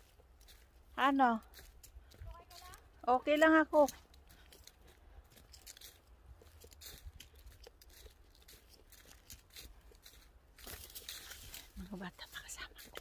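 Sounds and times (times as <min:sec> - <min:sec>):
footsteps on dry leaves: 0:00.0 - 0:13.0.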